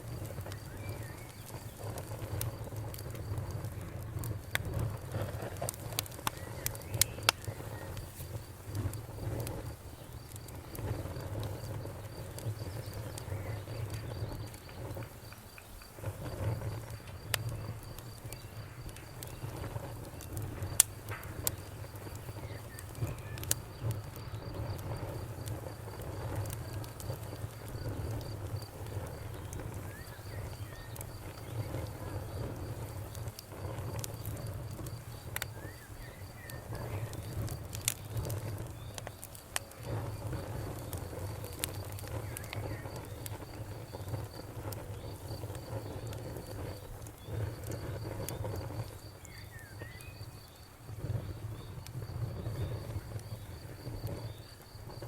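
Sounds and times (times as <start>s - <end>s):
cricket chirping: 0.0s - 55.0s
wood fire crackling: 0.0s - 55.0s.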